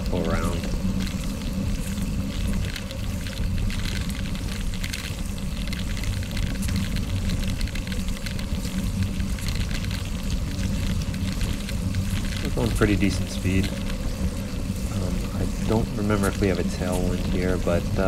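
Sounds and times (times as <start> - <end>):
tyres rolling over gravel: 0.0 - 18.0
wind rush on microphone: 0.0 - 18.0.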